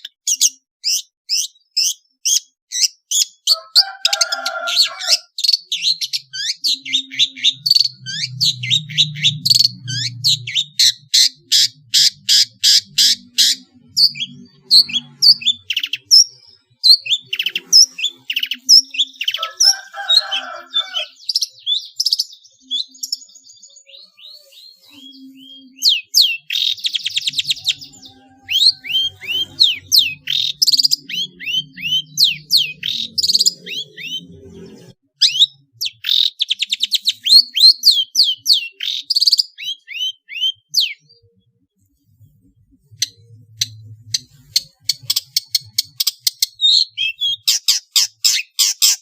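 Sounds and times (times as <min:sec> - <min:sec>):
shrike singing sharp chirps and trills: 0:00.0 - 0:41.4, 0:42.8 - 0:49.0.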